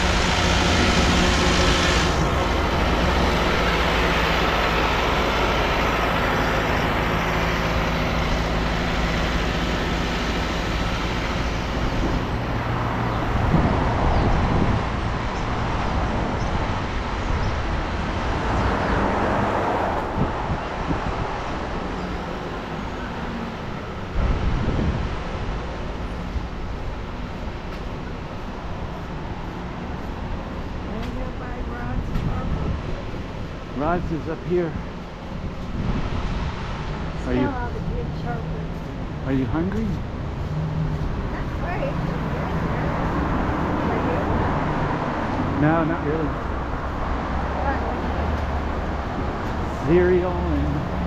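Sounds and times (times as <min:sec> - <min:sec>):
heavy engine humming: 0:00.0 - 0:51.0
street traffic passing: 0:00.0 - 0:51.0.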